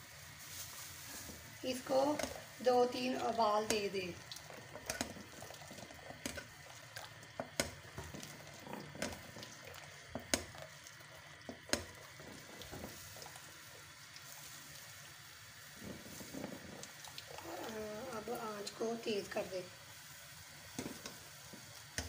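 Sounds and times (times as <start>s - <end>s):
milk bubbling in a saucepan: 0.0s - 22.0s.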